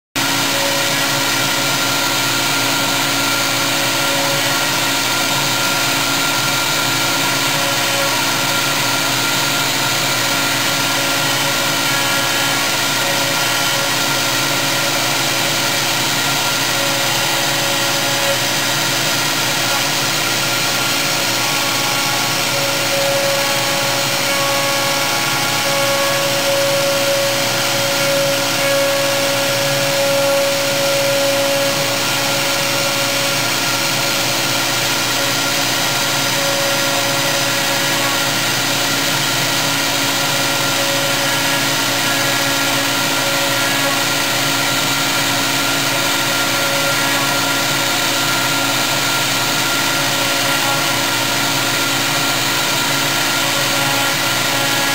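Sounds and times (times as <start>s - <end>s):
router spindle whine: 0.1s - 54.9s
end mill cutting wood: 0.2s - 54.9s.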